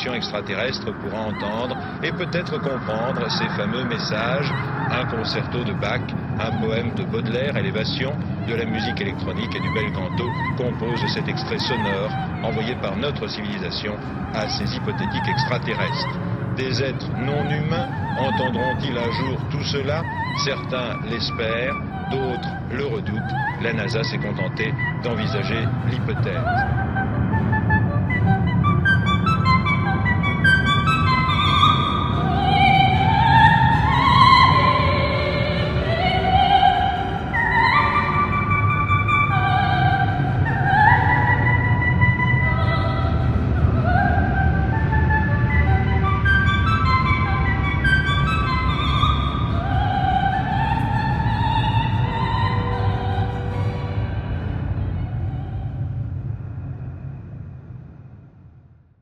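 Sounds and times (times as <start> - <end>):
orchestral backing: 0.0 - 55.3
operatic soprano singing: 0.0 - 56.0
faint steady tones: 0.0 - 57.8
low rumble: 0.0 - 58.8.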